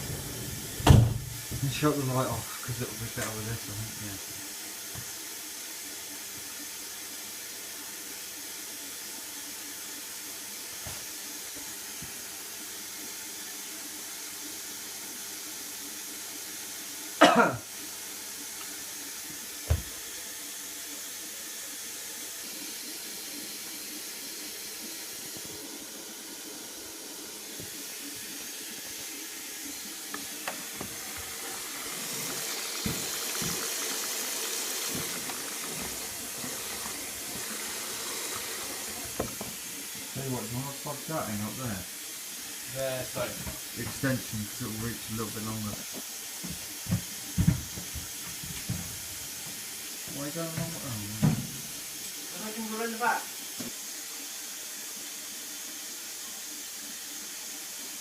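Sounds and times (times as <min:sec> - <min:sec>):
water hissing into washing machine: 0:00.0 - 0:58.0.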